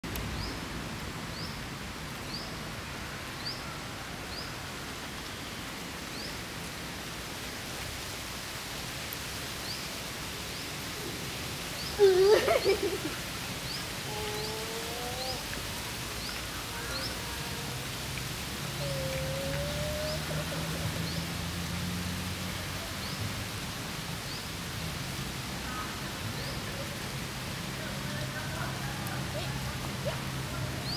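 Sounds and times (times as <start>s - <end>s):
outdoor background hiss: 0.0s - 30.9s.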